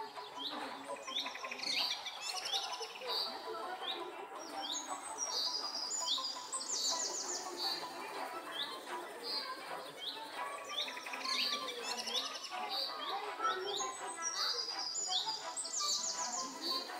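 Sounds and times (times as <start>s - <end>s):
birds chirping and singing: 0.0s - 16.9s.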